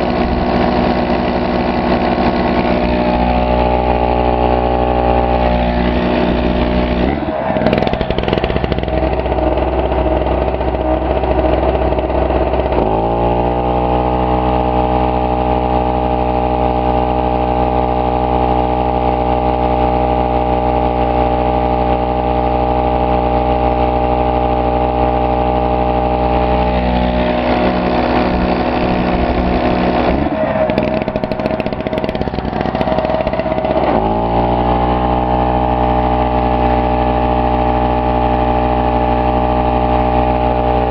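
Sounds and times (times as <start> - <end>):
air compressor motor and pump: 0.0 - 40.9
two-stroke generator engine running: 0.0 - 40.9.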